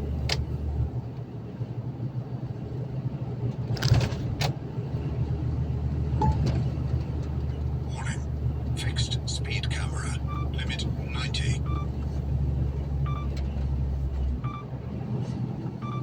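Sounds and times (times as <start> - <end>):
truck engine and tyres droning: 0.0 - 16.0.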